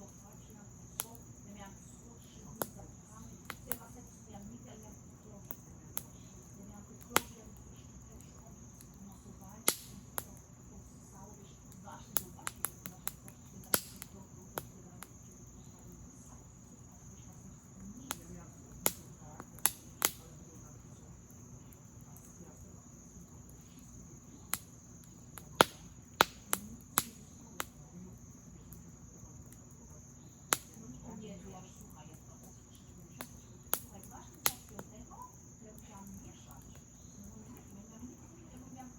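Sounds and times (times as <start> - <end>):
campfire wood crackling: 0.0 - 38.9
crickets trilling: 0.0 - 38.9
sharp pops of fire: 0.0 - 38.9.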